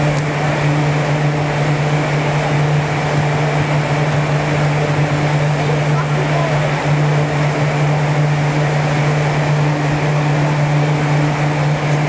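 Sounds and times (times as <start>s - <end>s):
blower fans humming: 0.0s - 12.0s.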